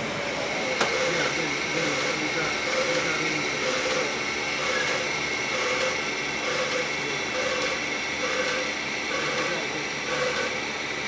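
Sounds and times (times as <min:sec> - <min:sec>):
steam air pump beating: 0:00.0 - 0:11.0
steam hissing: 0:00.0 - 0:11.0.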